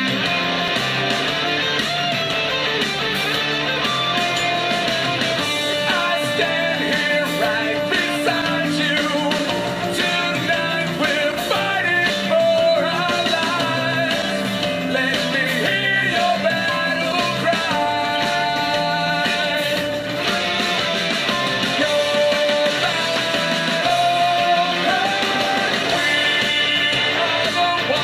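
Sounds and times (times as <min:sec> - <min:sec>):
rock song through speaker: 0:00.0 - 0:28.0.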